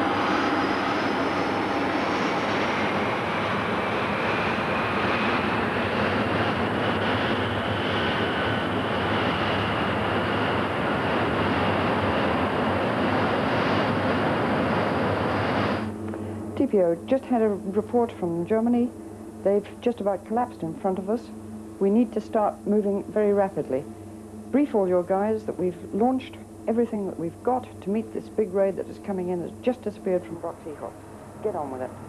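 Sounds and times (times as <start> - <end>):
jet engine roar with rising whine: 0.0 - 32.0.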